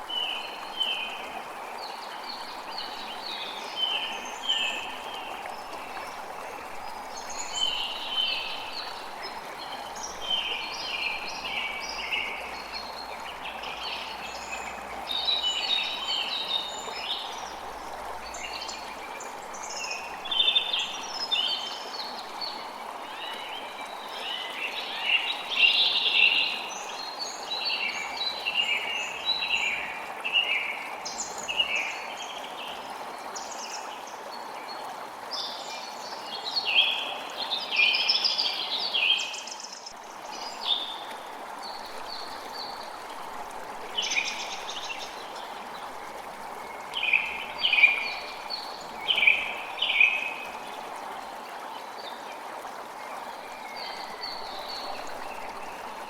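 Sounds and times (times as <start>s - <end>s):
creek rushing: 0.0s - 56.0s.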